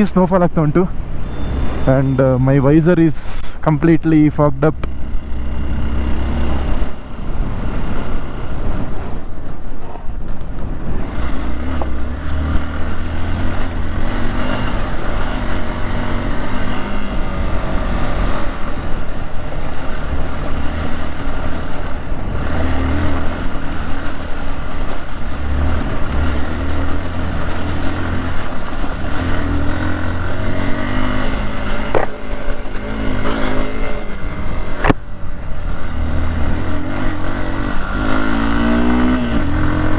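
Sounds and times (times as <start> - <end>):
motorcycle engine running: 4.7 - 39.9.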